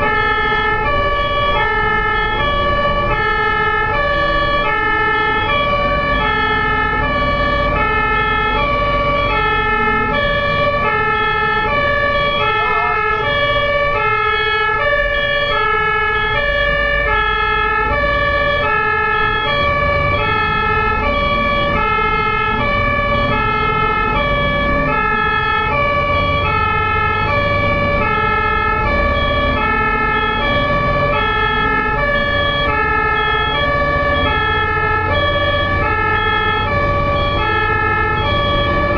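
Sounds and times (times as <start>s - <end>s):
ambulance two-tone siren: 0.0s - 38.9s
low vehicle and road rumble: 0.0s - 38.9s.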